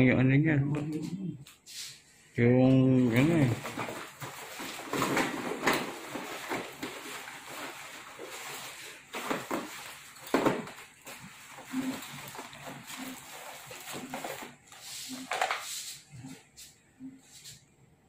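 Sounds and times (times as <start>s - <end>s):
rustling: 3.0s - 17.6s.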